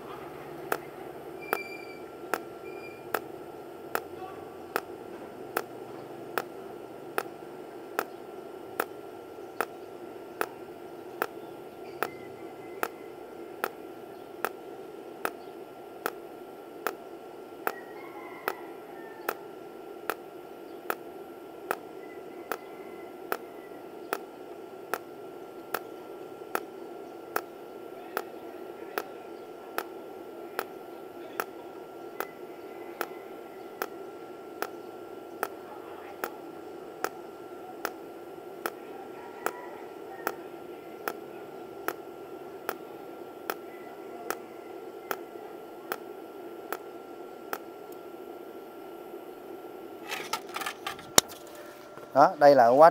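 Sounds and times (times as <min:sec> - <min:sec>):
faint high whine: 0:00.0 - 0:52.9
steady welder hum: 0:00.0 - 0:52.9
welder arc ticking: 0:00.0 - 0:52.9.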